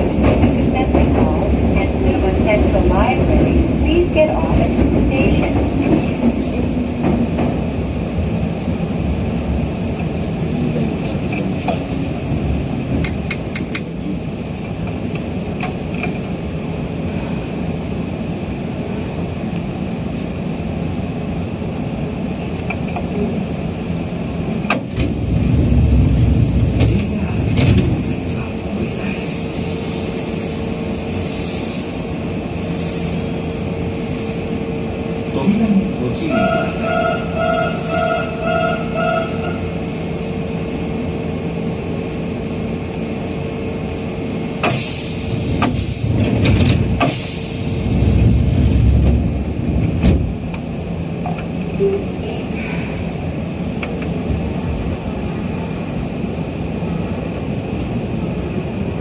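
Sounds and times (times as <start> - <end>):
train wheels and motors rumbling: 0.0 - 59.0.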